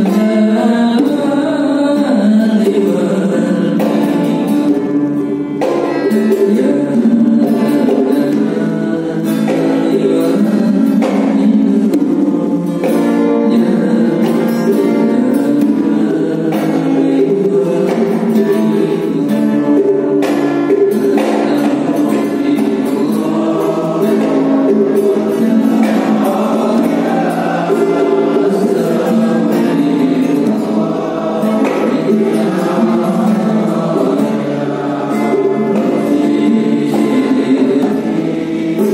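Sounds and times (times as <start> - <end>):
man singing into microphone: 0.0 - 38.9
men singing in unison: 0.0 - 38.9.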